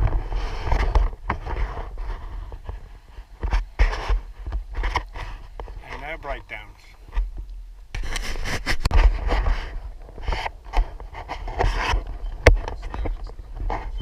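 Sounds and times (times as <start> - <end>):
microphone scraping and rubbing: 0.0 - 14.0.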